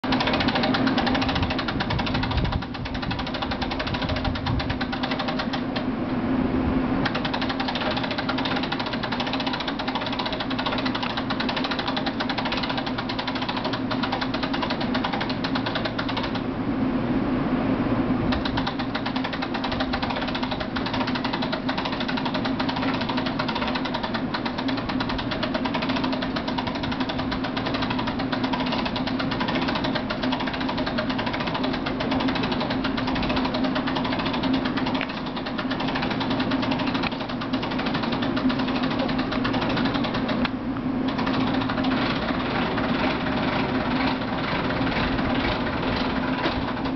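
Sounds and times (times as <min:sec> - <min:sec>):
rapid mechanical knocking: 0:00.0 - 0:05.9, 0:07.0 - 0:16.5, 0:18.3 - 0:46.9
constant low hum: 0:00.0 - 0:46.9.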